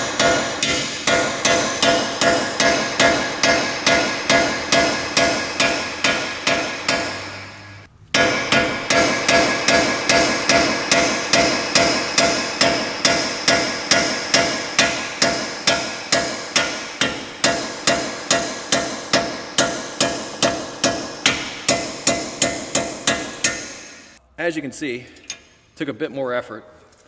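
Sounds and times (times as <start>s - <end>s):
hammer striking steel stud: 0.0s - 24.2s.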